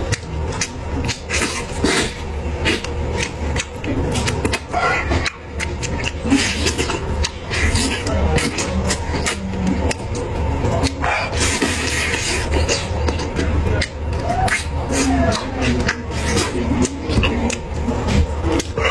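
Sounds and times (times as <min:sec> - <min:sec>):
man chewing and slurping meat: 0:00.0 - 0:18.9.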